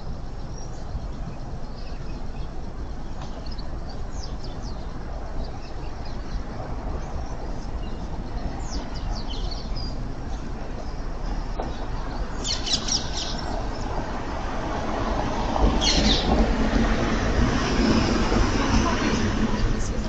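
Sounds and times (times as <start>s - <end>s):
low background rumble: 0.0s - 20.0s
small birds chirping: 0.0s - 20.0s.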